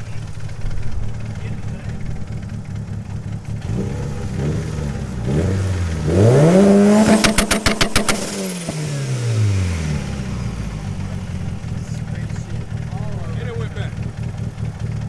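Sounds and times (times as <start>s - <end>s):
car engine revving: 0.0s - 15.0s
exhaust pops: 0.0s - 15.0s.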